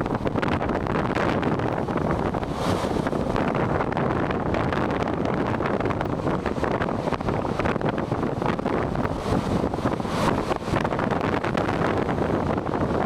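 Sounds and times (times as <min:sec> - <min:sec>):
waves breaking on coast: 0:00.0 - 0:13.0
wind gusting across microphone: 0:00.0 - 0:13.0.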